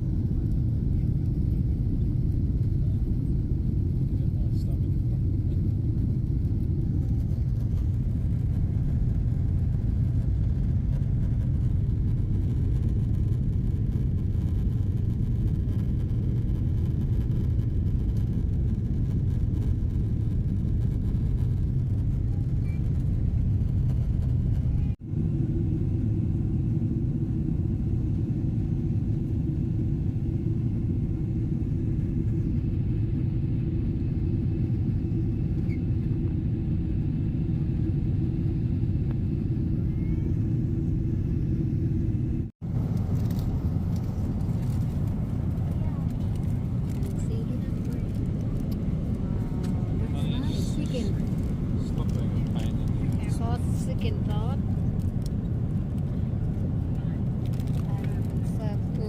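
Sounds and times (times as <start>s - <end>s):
airliner engine rumble in cabin: 0.0s - 59.0s.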